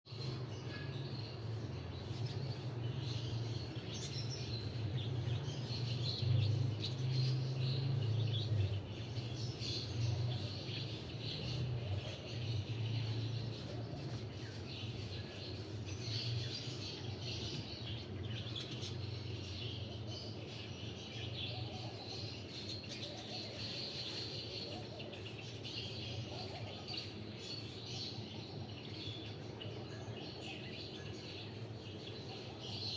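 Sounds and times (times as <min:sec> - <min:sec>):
small birds chirping: 0:00.1 - 0:32.9.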